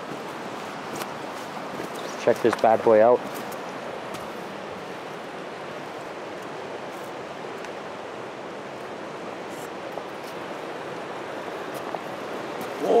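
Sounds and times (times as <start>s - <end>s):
river rushing over cobbles: 0.0s - 13.0s.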